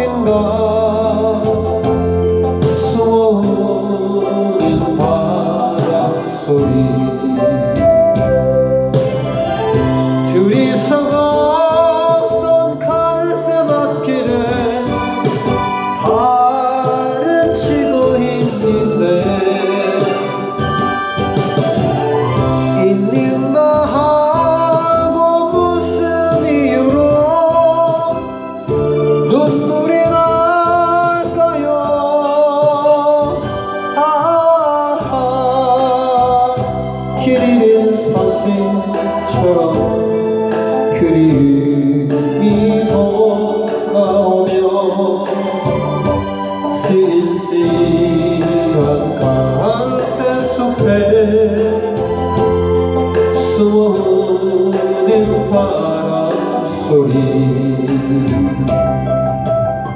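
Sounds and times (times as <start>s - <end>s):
backing track: 0.0s - 59.9s
person singing ballad: 0.0s - 59.9s.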